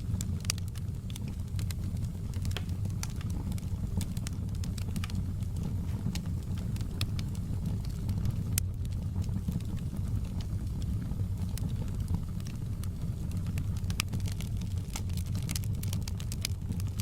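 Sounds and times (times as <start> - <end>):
fireplace crackling and popping: 0.0 - 17.0
low rumble of rain: 0.0 - 17.0.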